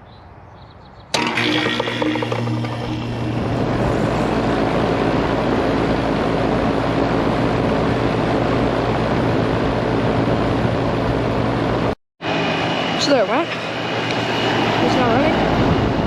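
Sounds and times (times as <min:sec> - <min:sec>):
condenser fan rushing: 0:01.1 - 0:16.0
air conditioner compressor hum: 0:01.2 - 0:16.0.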